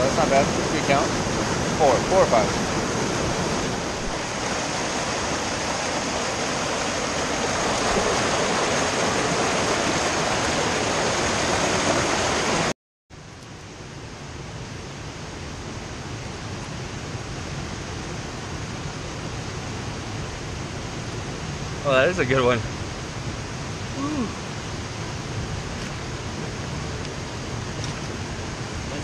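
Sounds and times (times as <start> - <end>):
creek water rushing over boulders: 0.0 - 12.7, 16.5 - 29.0.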